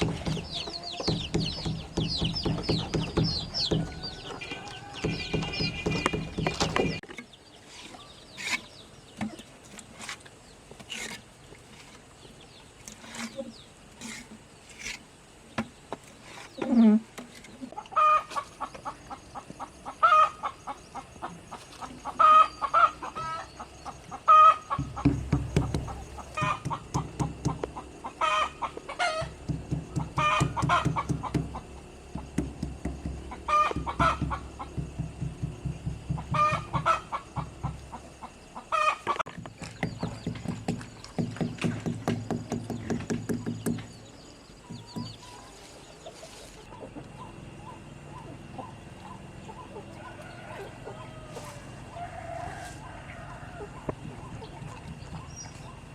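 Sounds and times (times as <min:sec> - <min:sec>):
chickens clucking: 0:00.0 - 0:10.2, 0:15.6 - 0:32.4, 0:33.0 - 0:40.4, 0:44.6 - 0:55.9.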